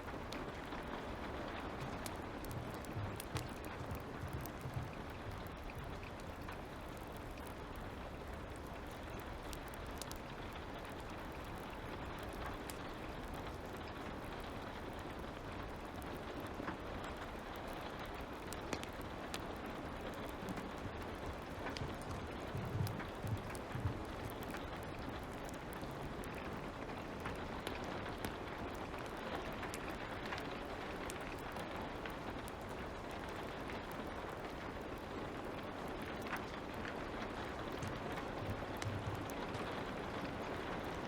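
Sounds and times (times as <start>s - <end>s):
fire crackling: 0.0s - 41.0s
soft rain hiss: 0.0s - 41.0s.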